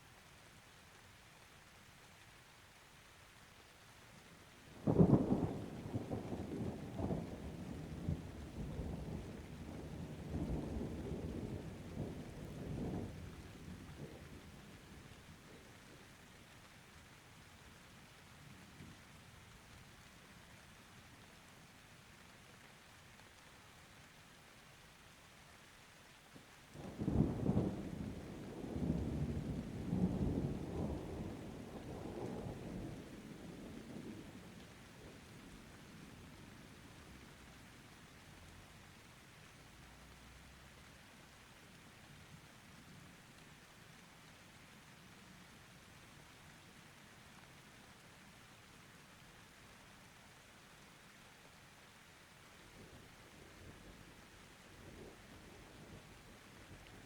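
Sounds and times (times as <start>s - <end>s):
faint rain: 0.0s - 57.0s.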